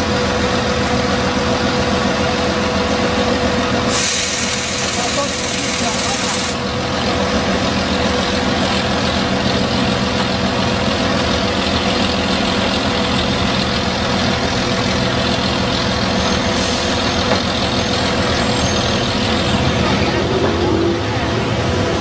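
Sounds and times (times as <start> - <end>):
road noise: 0.0 - 22.0
truck diesel engine running: 0.0 - 22.0.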